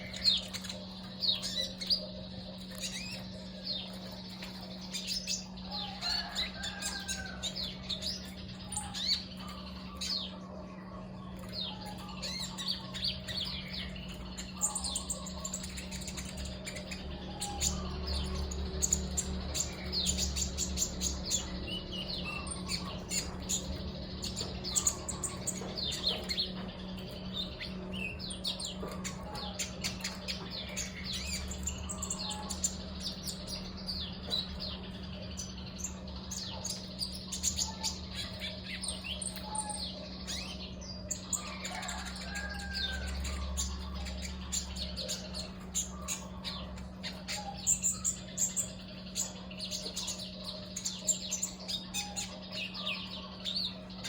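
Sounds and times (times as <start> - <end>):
songbird chirping: 0.0 - 54.0
steady low hum: 0.0 - 54.0.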